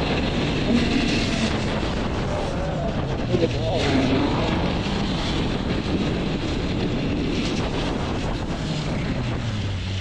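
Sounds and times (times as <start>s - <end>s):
motorcycle engine drone: 0.0s - 10.0s
wind on microphone: 0.0s - 10.0s.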